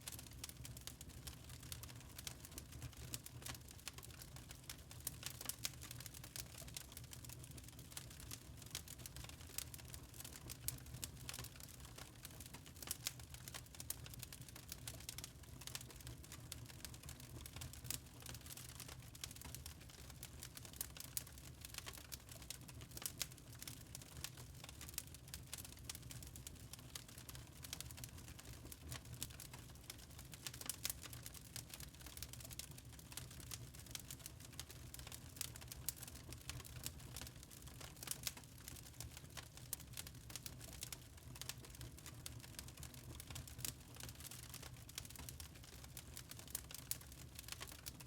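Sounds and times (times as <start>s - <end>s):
log fire crackling: 0.0s - 48.0s.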